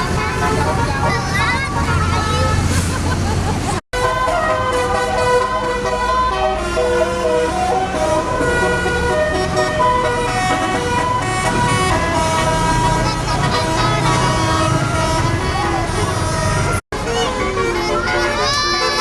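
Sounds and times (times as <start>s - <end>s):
bus horn playing a tune: 0.0s - 2.9s, 4.0s - 19.0s
bus engine running: 0.0s - 19.0s.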